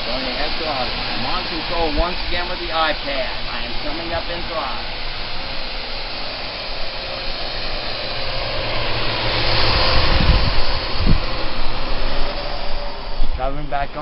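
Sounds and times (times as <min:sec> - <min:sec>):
low rumbling gusts: 0:00.0 - 0:14.0
quadcopter rotors whirring: 0:00.0 - 0:14.0.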